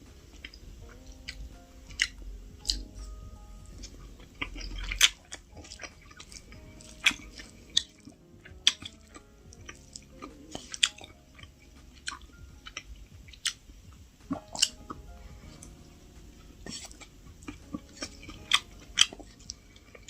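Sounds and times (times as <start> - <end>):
person chewing with wet smacks: 0.2 - 20.0.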